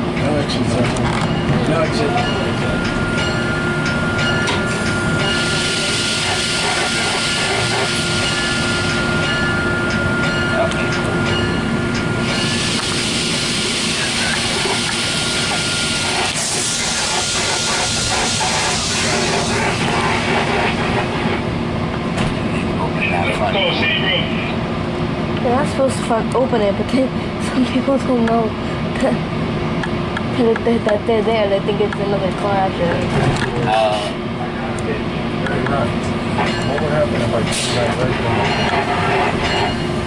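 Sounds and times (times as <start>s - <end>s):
train car rumble and hiss: 0.0s - 40.0s.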